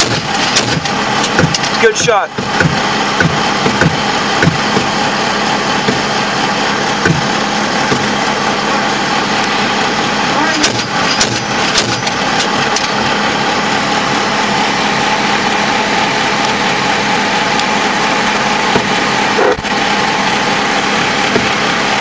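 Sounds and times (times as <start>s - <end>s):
armoured vehicle diesel engine droning: 0.0s - 22.0s.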